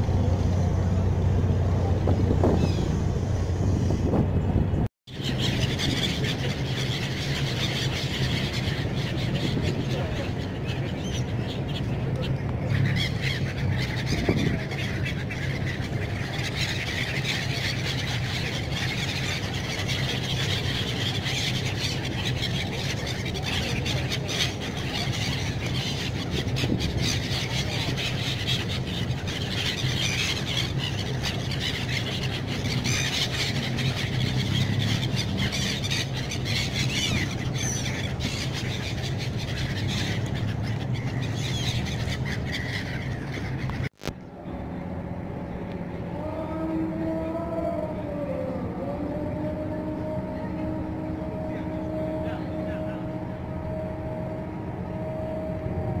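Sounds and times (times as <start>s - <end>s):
gulls calling: 0.0s - 56.0s
steady low hum: 0.0s - 56.0s.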